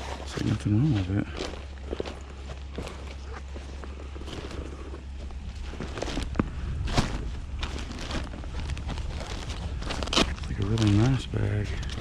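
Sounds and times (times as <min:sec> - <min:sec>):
bag rustling and clicking: 0:00.0 - 0:12.0.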